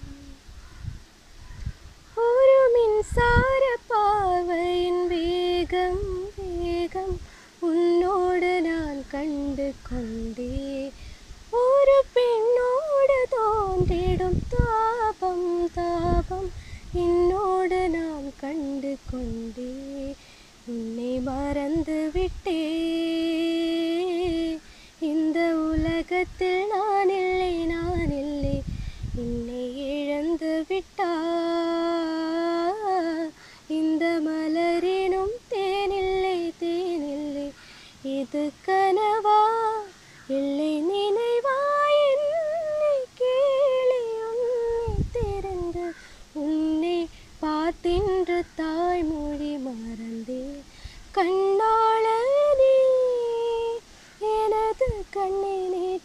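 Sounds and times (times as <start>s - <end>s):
woman singing unaccompanied: 0.0s - 0.7s, 1.6s - 56.0s.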